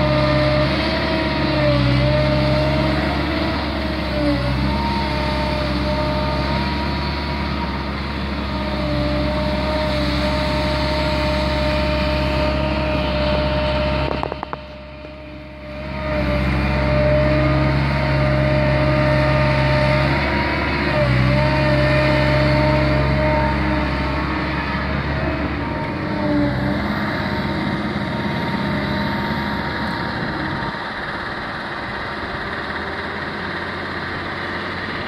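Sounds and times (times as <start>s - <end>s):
excavator diesel engine working: 0.0s - 35.0s
hydraulic whine: 0.0s - 35.0s.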